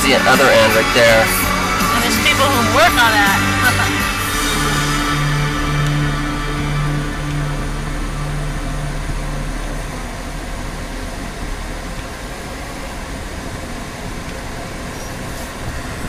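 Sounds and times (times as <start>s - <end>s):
radio music: 0.0s - 12.9s
car road and engine noise: 0.0s - 16.0s.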